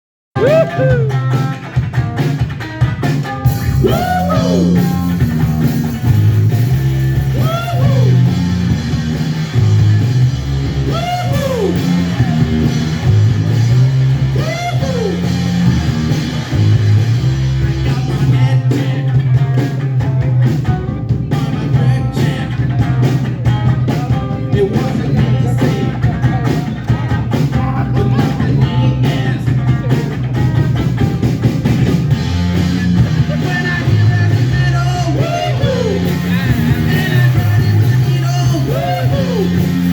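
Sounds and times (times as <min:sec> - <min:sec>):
electric guitar bent notes: 0:00.4 - 0:39.9
live rock band playing: 0:00.4 - 0:39.9.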